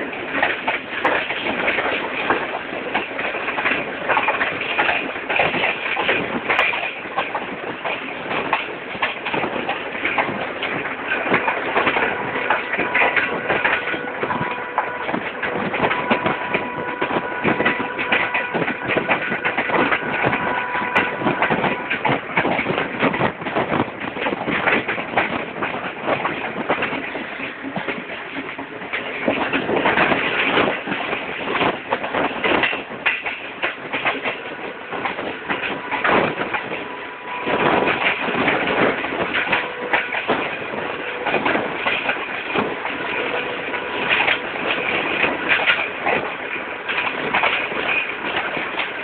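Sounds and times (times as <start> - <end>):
train wheels rumbling and rattling: 0.0 - 49.0.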